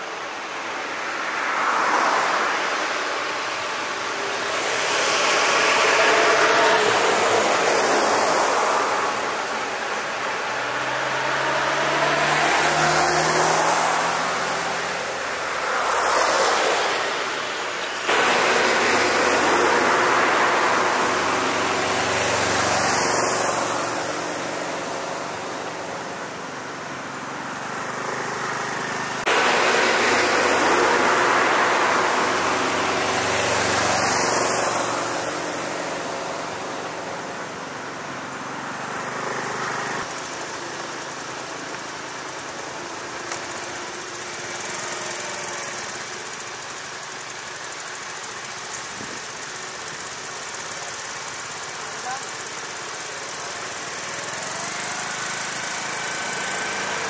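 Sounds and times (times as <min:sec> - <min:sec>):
cars driving past: 0:00.0 - 0:57.0.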